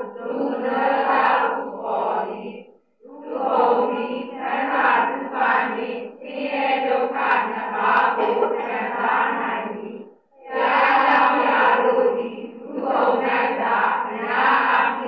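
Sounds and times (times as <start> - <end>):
women reading aloud in unison: 0.0 - 15.0.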